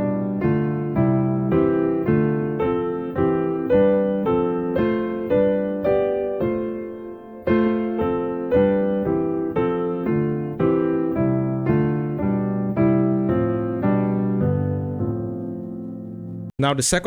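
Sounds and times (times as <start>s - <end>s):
piano chords: 0.0s - 16.5s.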